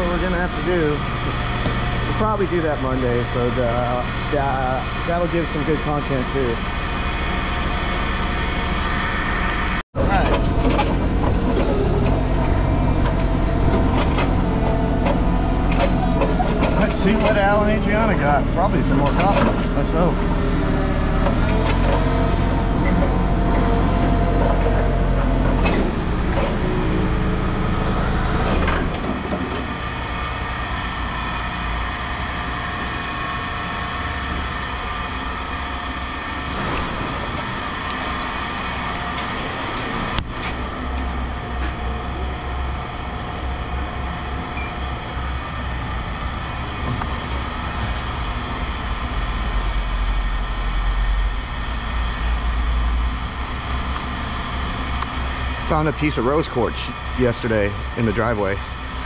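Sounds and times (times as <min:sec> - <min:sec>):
engine running with low rumble: 0:00.0 - 0:59.0.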